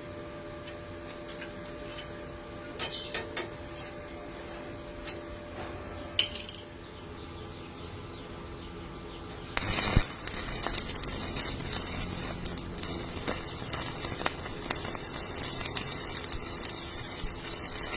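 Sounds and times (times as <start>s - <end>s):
steady hum: 0.0s - 17.9s.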